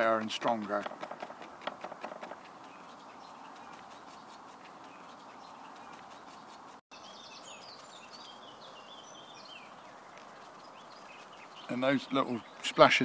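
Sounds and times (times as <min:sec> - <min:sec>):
outdoor background noise: 0:00.0 - 0:13.0
small bird chirping: 0:00.7 - 0:13.0.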